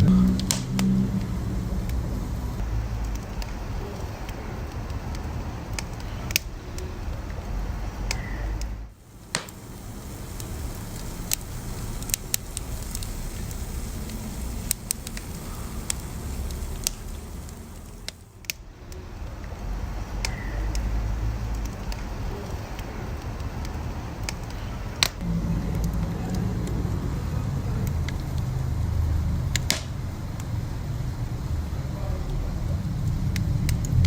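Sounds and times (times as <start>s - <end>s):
low rumble of burning: 0.0s - 34.0s
wood fire crackling and popping: 0.0s - 34.0s.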